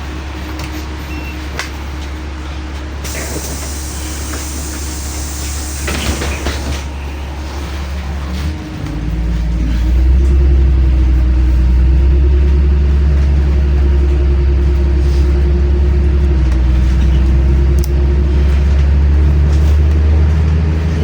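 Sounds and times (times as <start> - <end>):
bus engine rumbling: 0.0 - 21.0.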